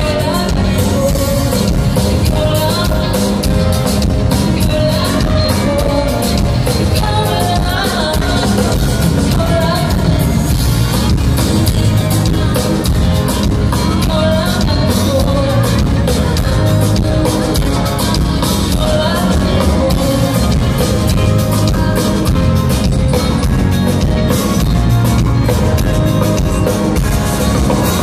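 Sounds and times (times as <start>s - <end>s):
woman singing into a microphone: 0.0s - 24.7s
loud amplified band music: 0.0s - 28.0s.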